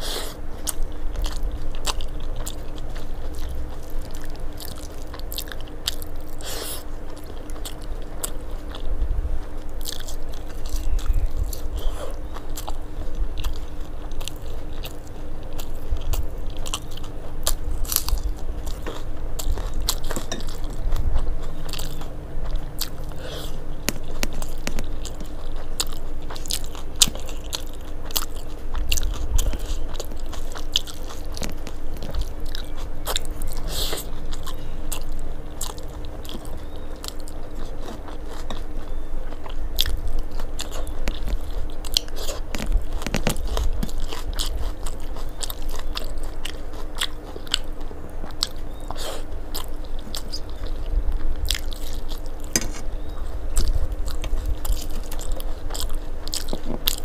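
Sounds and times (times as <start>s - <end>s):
chewing and crunching food: 0.0s - 57.0s
faint steady hum: 0.0s - 57.0s.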